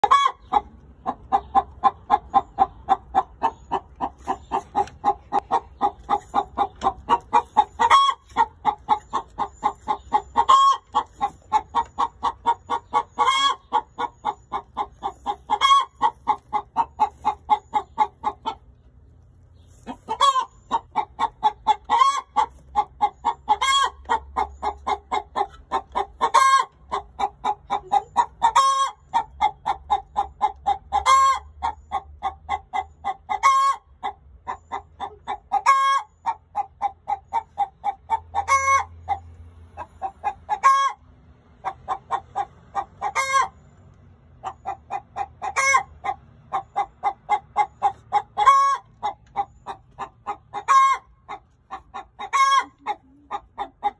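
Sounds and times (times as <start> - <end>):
hen cackling: 0.0 - 18.8, 19.7 - 39.2, 39.8 - 43.6, 44.4 - 53.9.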